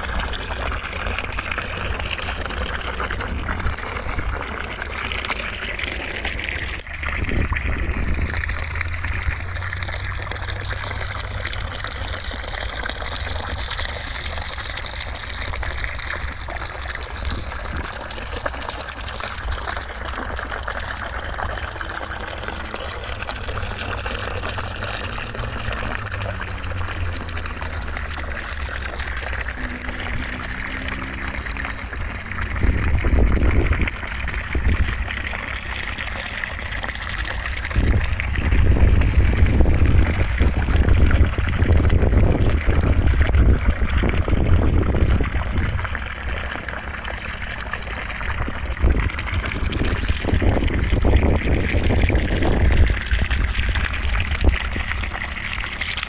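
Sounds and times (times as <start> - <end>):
white noise like gushing water: 0.0 - 56.0.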